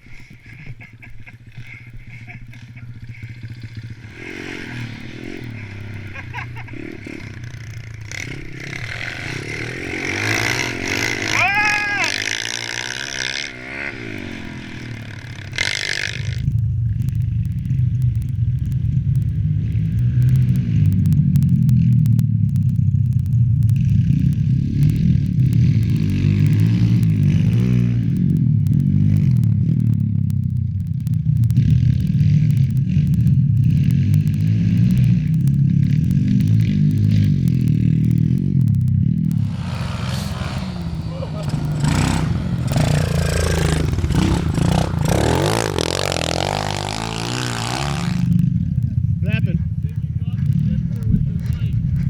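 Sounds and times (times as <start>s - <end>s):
motorbike engine revving: 0.0s - 52.0s
sharp clicks and rattling: 0.0s - 52.0s.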